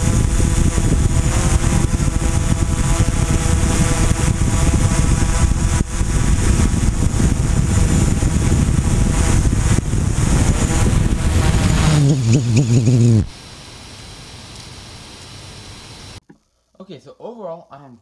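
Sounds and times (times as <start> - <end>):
quadcopter drone hovering whir: 0.0 - 16.2.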